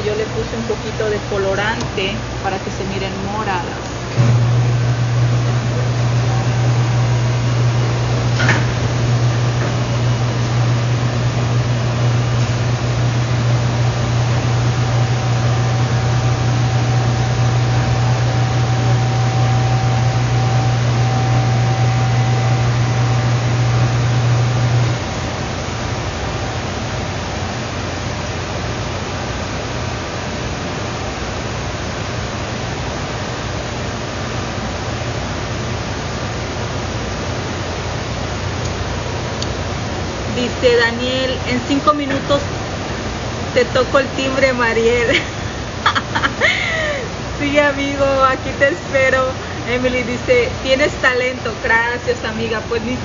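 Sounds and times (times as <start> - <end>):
appliance electrical hum: 0.0 - 53.0.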